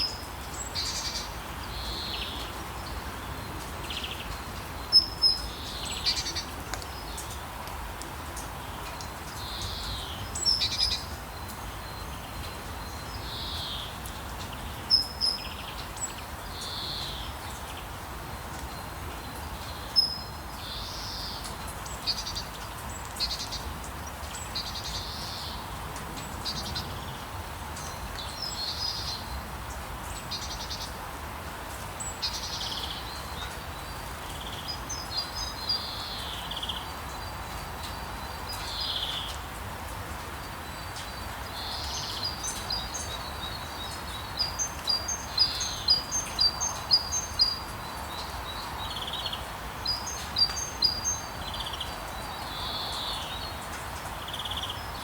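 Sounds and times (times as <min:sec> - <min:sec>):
light rain: 0:00.0 - 0:55.0
songbirds chirping: 0:00.0 - 0:55.0.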